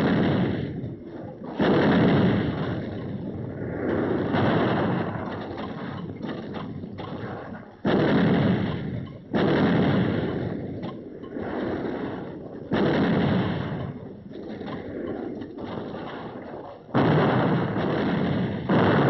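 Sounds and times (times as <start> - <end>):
artillery firing with rumble: 0.0 - 19.0.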